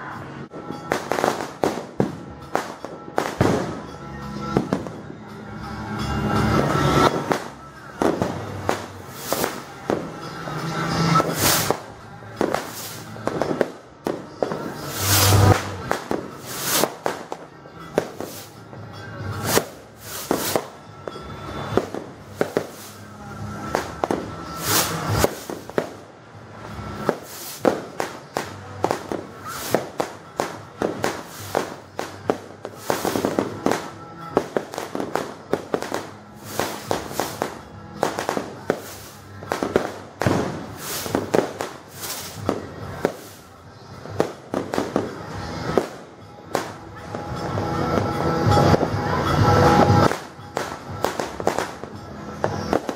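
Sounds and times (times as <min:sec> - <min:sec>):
fireworks and firecrackers banging: 0:00.0 - 0:52.9.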